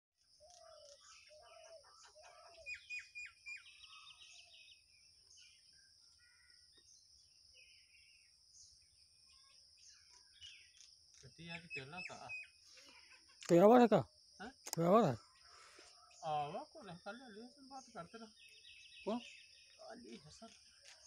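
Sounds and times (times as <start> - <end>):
birds chirping: 0.2 - 21.0.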